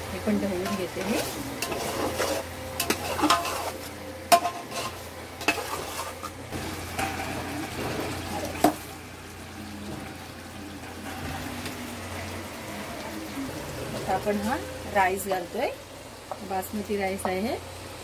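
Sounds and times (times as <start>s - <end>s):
gravy sizzling faintly: 0.0s - 18.0s.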